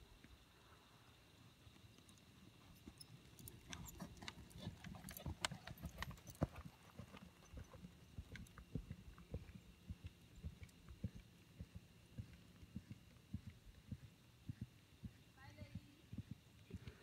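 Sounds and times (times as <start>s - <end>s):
horse hooves on sand: 1.5s - 17.0s.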